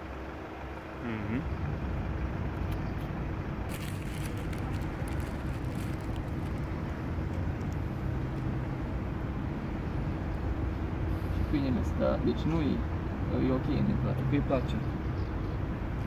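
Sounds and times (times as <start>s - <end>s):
low mechanical rumble and hum: 0.0s - 16.0s.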